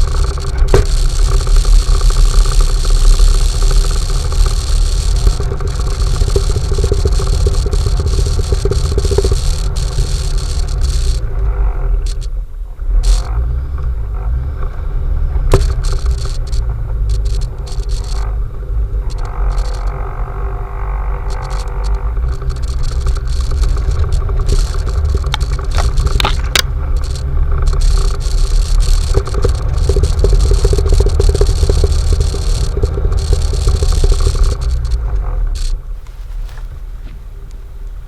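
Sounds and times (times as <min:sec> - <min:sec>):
off-road vehicle engine rumble: 0:00.0 - 0:38.0.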